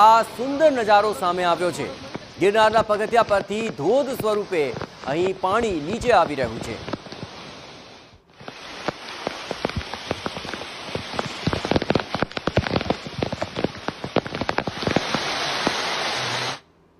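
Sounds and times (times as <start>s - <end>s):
rainwater rushing down stone steps: 0.0s - 7.2s, 8.3s - 16.6s
rain drops tapping: 0.0s - 7.6s, 8.3s - 16.6s
steady hiss of rain: 0.0s - 16.7s.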